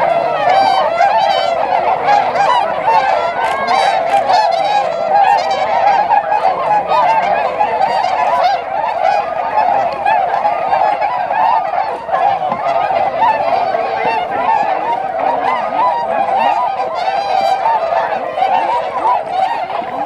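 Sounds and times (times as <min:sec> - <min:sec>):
flock of swans honking: 0:00.0 - 0:20.0.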